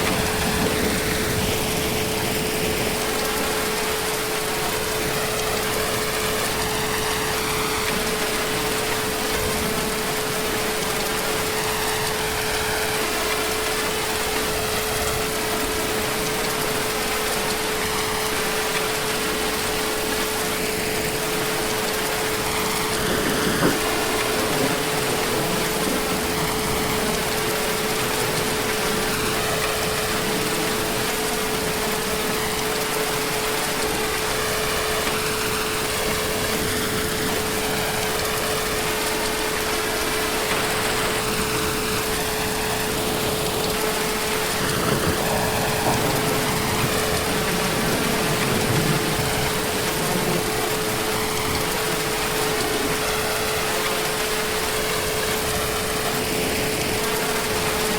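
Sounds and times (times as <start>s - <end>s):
constant hum: 0.0s - 57.9s
heavy rain: 0.0s - 57.9s.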